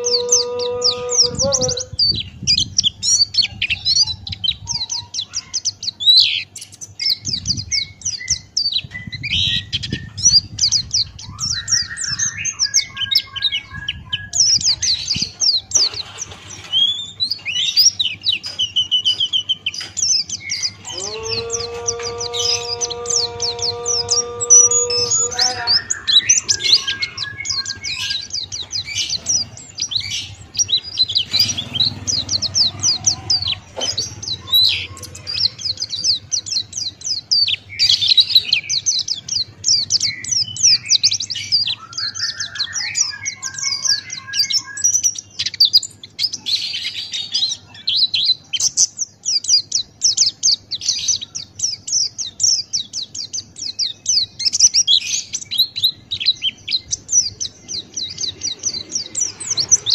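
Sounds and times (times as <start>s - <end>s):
bird twittering song: 0.0s - 59.9s.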